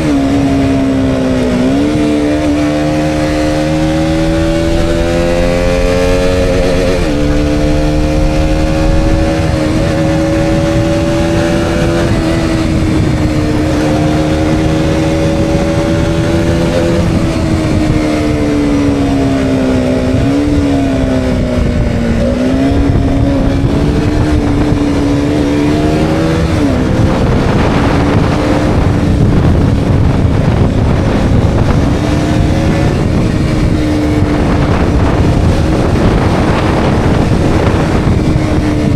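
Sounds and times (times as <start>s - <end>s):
motorcycle engine revving: 0.0s - 38.9s
wind rush on microphone: 0.0s - 38.9s.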